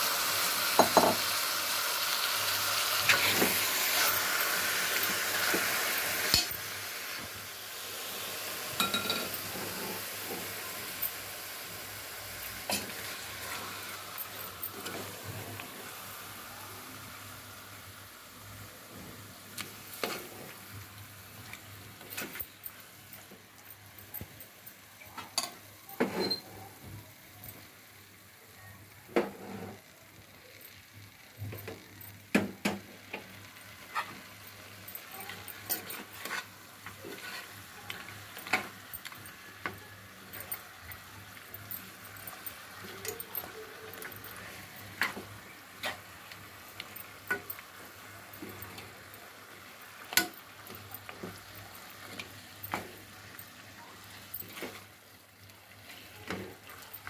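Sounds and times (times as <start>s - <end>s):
faint sizzle of frying: 0.0s - 57.0s.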